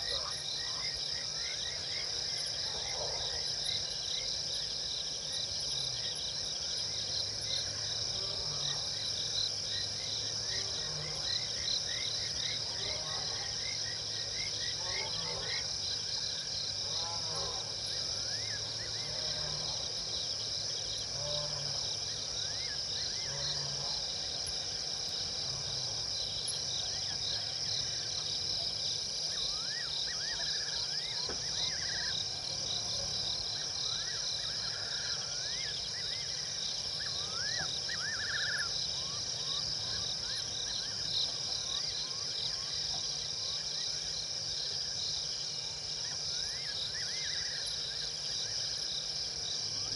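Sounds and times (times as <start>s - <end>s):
chorus of crickets and insects: 0.0s - 49.9s.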